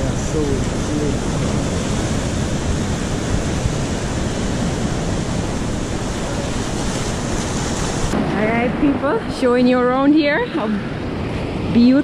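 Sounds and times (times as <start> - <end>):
surf breaking on rocky shore: 0.0 - 12.0.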